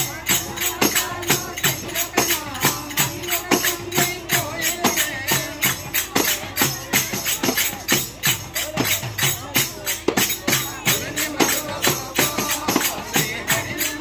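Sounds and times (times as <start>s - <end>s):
frame drums with jingles: 0.0s - 14.0s.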